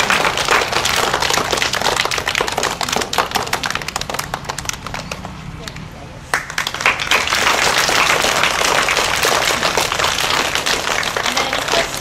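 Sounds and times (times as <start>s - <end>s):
crowd applauding: 0.0s - 5.4s, 6.3s - 12.0s.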